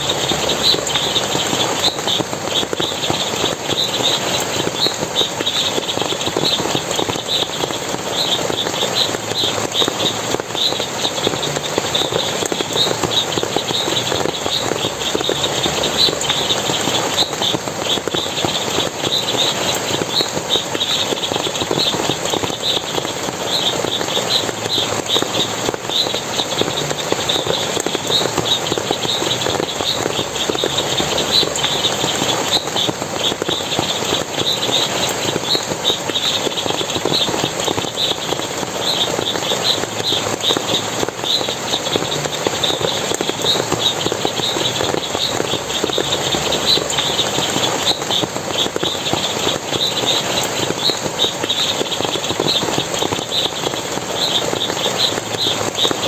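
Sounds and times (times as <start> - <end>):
high chirps: 0.0 - 56.0
water splashing and running: 0.0 - 56.0.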